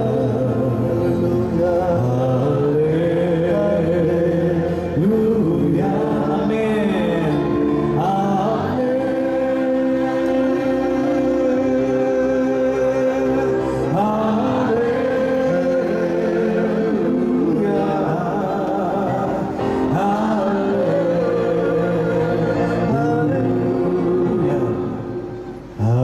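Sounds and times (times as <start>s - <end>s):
instrumental backing music: 0.0s - 26.0s
man singing a worship song: 0.0s - 26.0s.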